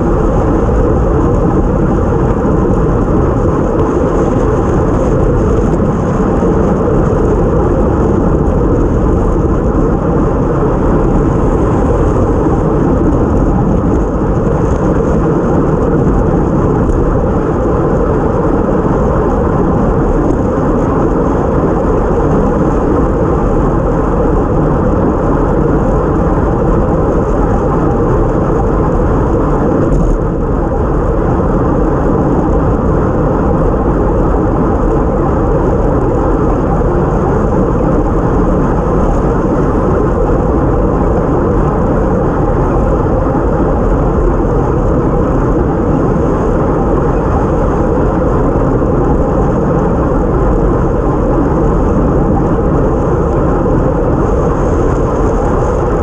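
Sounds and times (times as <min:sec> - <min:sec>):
bicycle road noise: 0:00.0 - 0:56.0
loud wind rumble: 0:00.0 - 0:56.0.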